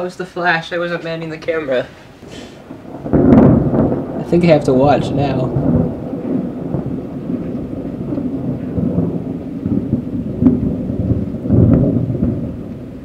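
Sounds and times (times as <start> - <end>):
thunder rumbling: 0.0 - 13.0
sharp thunder crack: 1.7 - 13.0.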